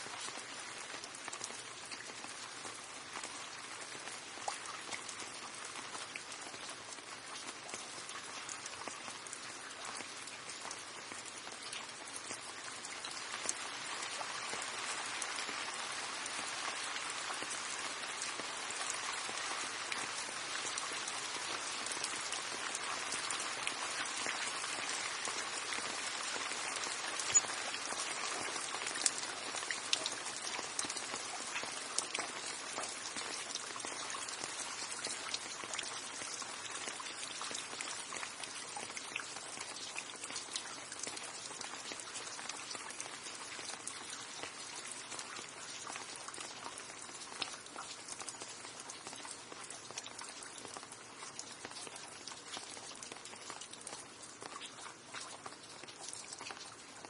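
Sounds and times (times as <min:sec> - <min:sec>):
rain drops tapping: 0:00.0 - 0:57.0.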